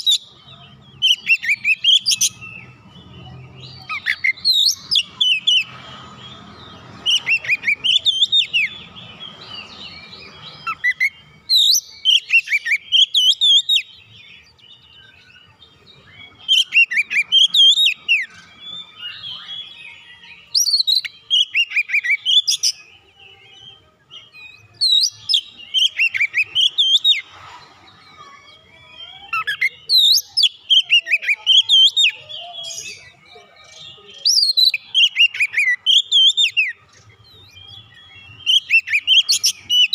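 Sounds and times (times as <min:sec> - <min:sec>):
bird singing whistled notes: 0:00.0 - 0:27.4, 0:28.0 - 0:39.9.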